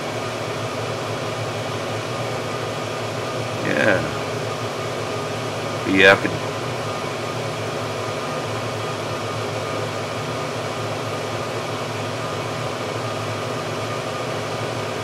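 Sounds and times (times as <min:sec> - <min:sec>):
blower rushing air with hum: 0:00.0 - 0:15.0.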